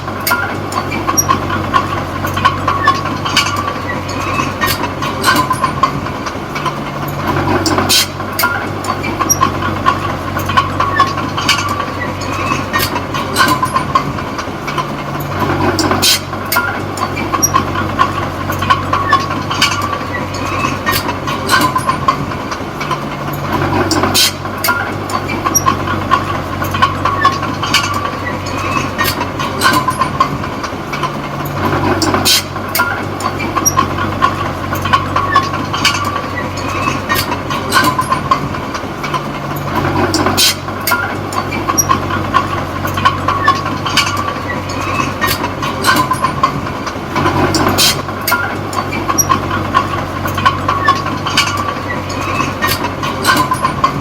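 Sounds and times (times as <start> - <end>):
diesel engine running: 0.0 - 54.0
steel tracks clanking: 0.0 - 54.0.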